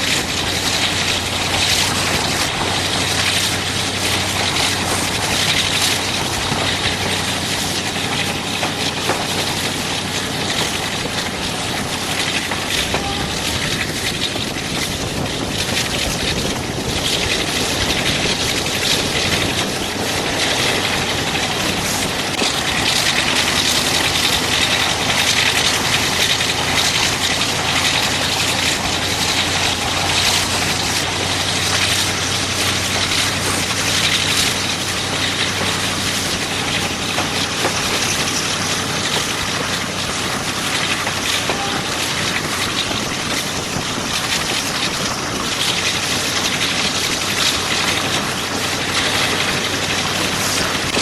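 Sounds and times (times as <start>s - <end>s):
constant rushing noise: 0.0s - 51.0s
diesel locomotive engine hum: 0.0s - 51.0s.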